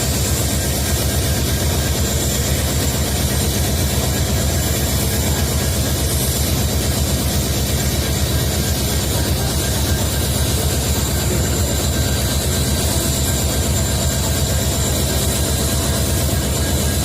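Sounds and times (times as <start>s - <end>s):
locomotive diesel engine throb: 0.0s - 17.0s.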